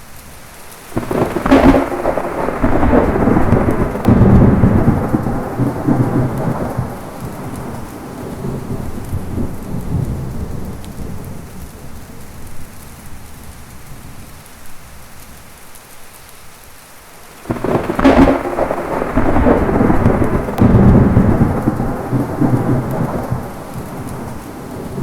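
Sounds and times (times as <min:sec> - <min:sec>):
steady rain: 0:00.0 - 0:25.0
thunderclap and rumbling: 0:00.9 - 0:14.4, 0:17.4 - 0:25.0.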